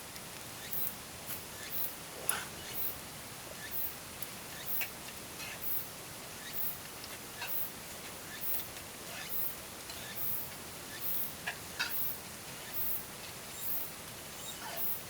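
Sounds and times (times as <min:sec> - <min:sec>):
steady hiss of river or rain: 0:00.0 - 0:15.0
small ticks: 0:00.1 - 0:03.0, 0:03.6 - 0:05.8, 0:06.4 - 0:15.0.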